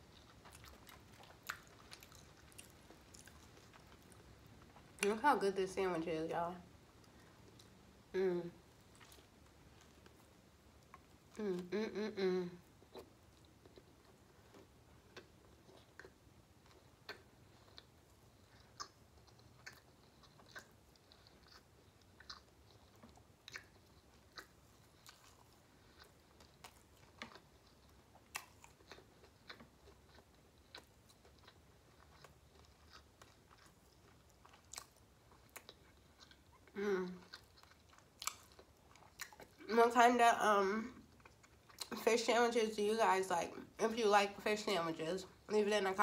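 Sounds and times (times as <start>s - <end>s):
faint chewing: 0.0s - 5.2s, 6.8s - 39.8s, 40.8s - 42.0s.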